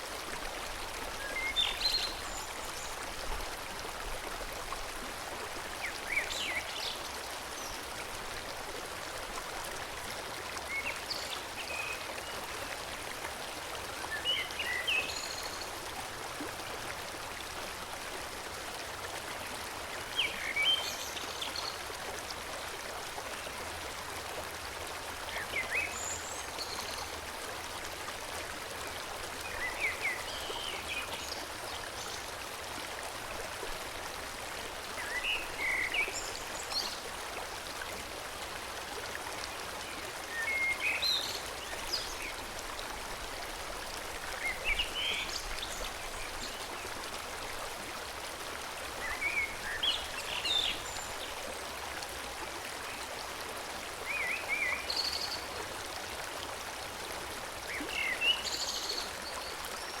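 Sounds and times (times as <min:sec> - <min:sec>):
stream flowing: 0:00.0 - 1:00.0.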